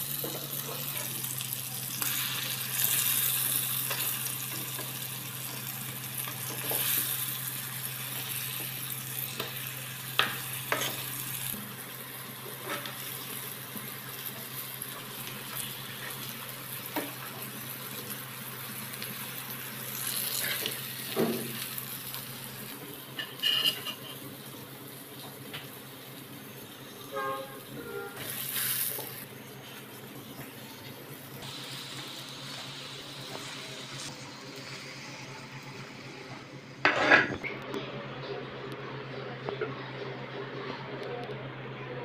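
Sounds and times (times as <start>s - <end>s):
slices sizzling in oil: 0.0s - 36.1s.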